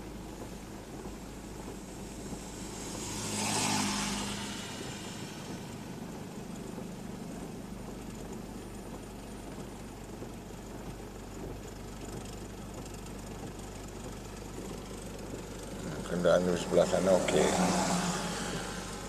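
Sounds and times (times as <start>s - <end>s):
car engine hum: 0.0s - 19.0s
rain and tyres hissing: 0.0s - 19.0s.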